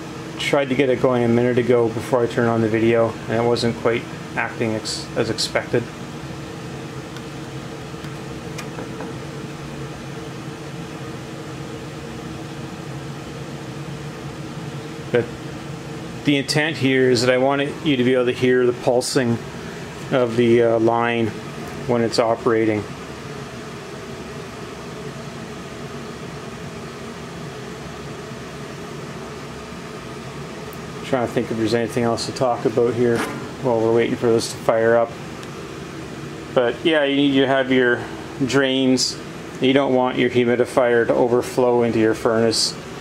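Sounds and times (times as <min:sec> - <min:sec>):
furnace blower fan humming: 0:00.0 - 0:43.0.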